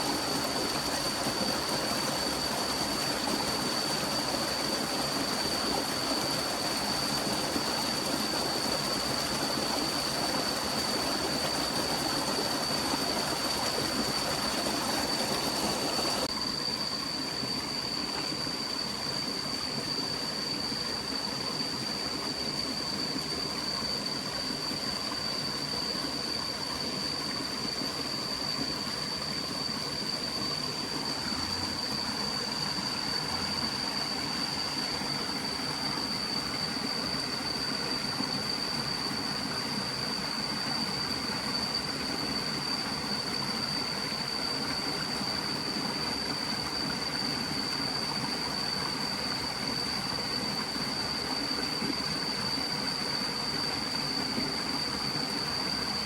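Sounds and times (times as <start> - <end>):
stream water rushing: 0.0 - 16.4, 22.2 - 56.0
high-pitched whine: 0.0 - 56.0.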